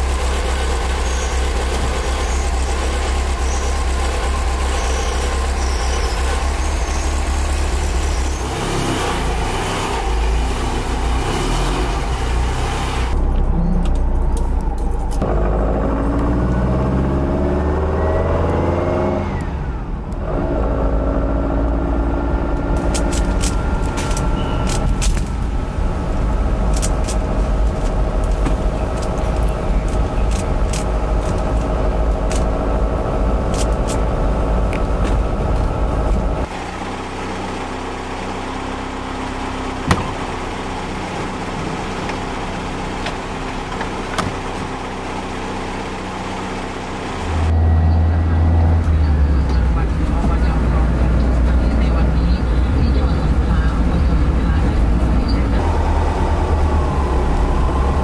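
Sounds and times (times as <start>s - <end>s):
car engine running: 0.0s - 19.2s, 19.8s - 58.0s.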